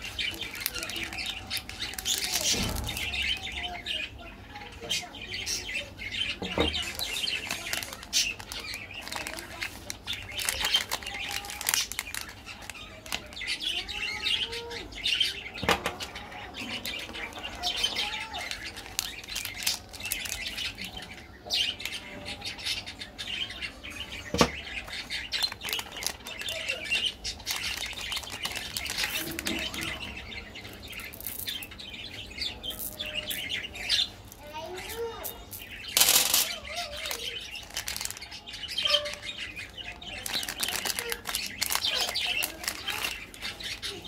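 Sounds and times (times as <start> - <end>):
plastic candy wrappers crinkling: 0.0 - 3.8, 6.5 - 14.8, 15.7 - 22.0, 24.3 - 44.0.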